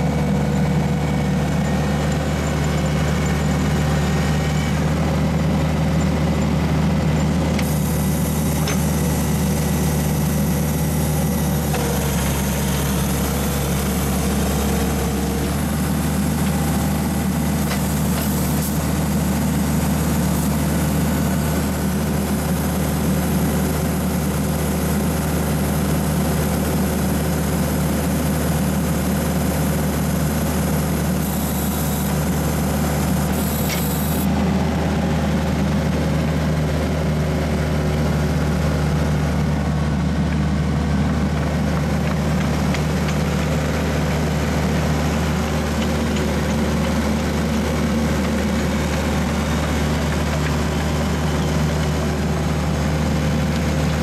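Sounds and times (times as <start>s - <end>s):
drill engine running steadily: 0.0s - 54.0s.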